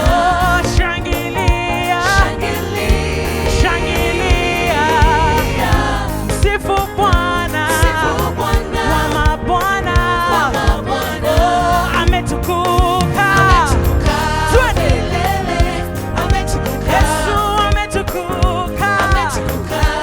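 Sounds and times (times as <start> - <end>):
band with beat and bass: 0.0 - 20.0
choir singing with vibrato: 0.0 - 20.0.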